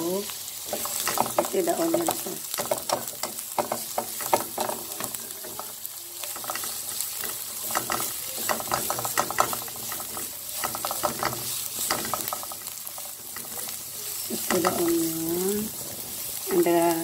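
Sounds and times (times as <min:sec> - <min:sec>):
onion sizzling in oil: 0:00.0 - 0:17.0
spatula scraping a pan: 0:00.5 - 0:17.0.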